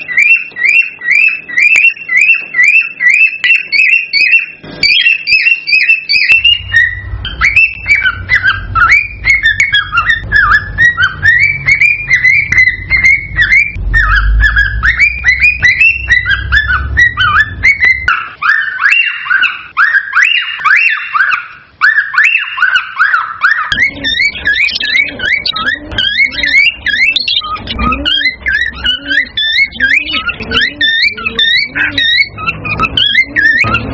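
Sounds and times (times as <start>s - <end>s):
cockatiel chirping and whistling: 0.0s - 33.9s.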